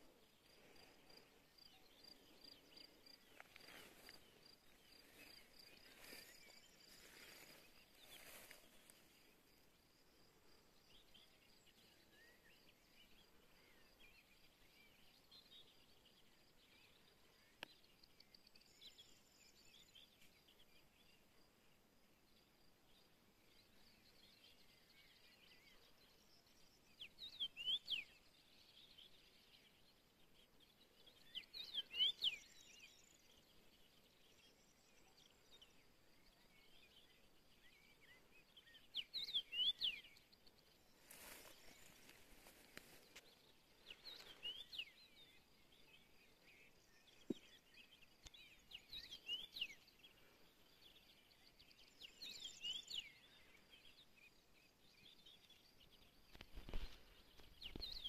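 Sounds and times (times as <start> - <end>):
soft bird chirps: 0.0 - 58.0.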